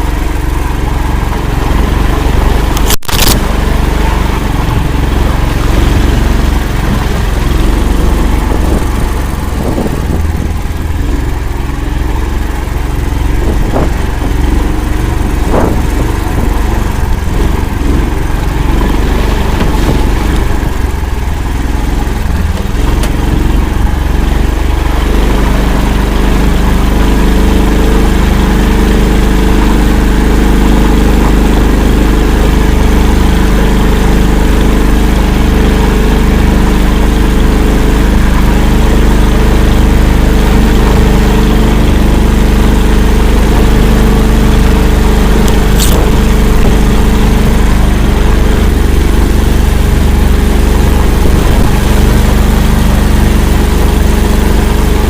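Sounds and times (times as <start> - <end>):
all-terrain vehicle engine running: 0.0 - 55.0.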